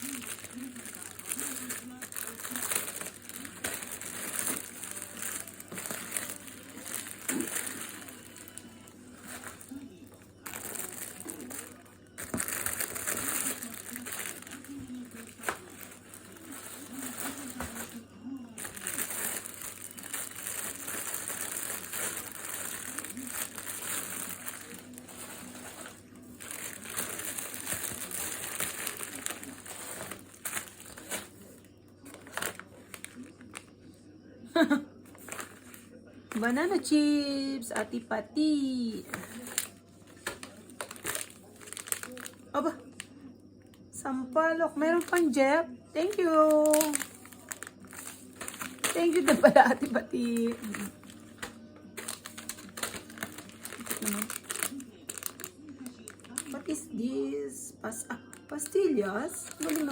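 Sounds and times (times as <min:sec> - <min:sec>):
plastic packets crinkling: 0:00.0 - 0:33.7, 0:34.6 - 0:36.9, 0:38.9 - 0:43.1, 0:44.8 - 0:56.8, 0:58.3 - 0:59.9.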